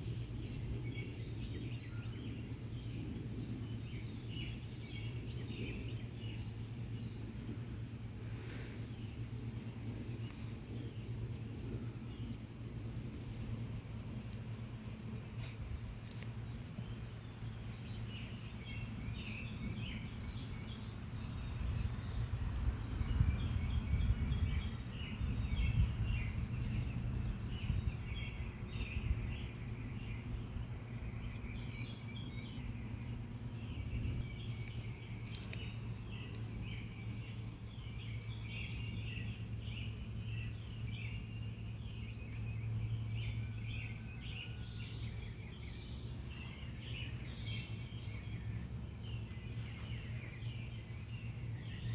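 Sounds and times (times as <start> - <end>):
birds chirping: 0.0 - 51.9
steady low hum: 0.0 - 51.9.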